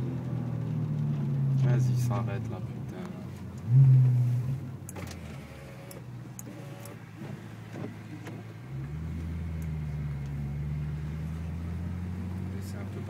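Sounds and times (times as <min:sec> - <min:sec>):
car engine hum from inside: 0:00.0 - 0:13.0.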